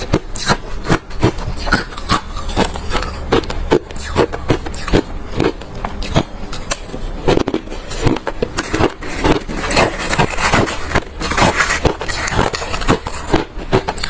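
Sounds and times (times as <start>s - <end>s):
chewing crushed ice: 0.0s - 14.0s.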